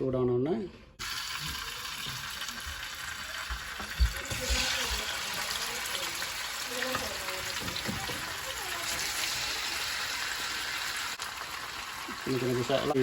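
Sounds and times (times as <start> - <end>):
hot oil sizzling: 1.0 - 13.0.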